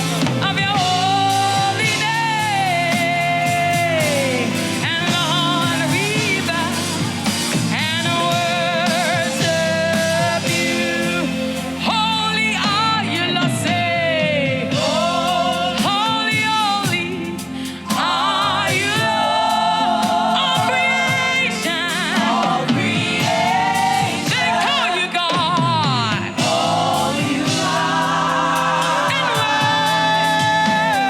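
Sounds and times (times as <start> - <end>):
instrumental backing: 0.0 - 31.0
person singing with vibrato: 0.0 - 31.0.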